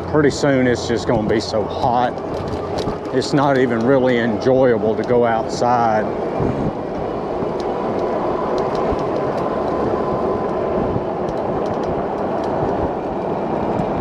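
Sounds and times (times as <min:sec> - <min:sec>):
traffic: 0:00.0 - 0:14.0
wind noise: 0:00.0 - 0:14.0.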